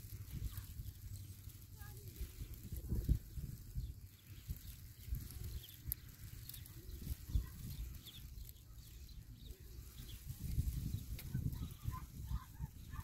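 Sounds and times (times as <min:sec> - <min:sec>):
wind buffeting microphone: 0:00.0 - 0:13.0
faint bird chirps: 0:00.2 - 0:13.0.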